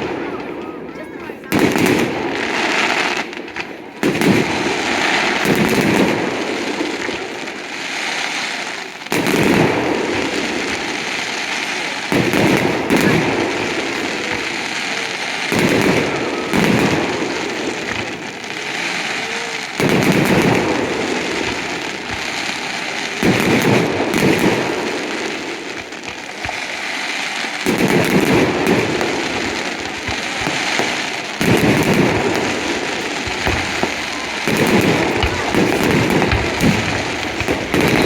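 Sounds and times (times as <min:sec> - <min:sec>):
fireworks bursting: 0:00.0 - 0:38.0
fireworks crackling: 0:00.0 - 0:38.0.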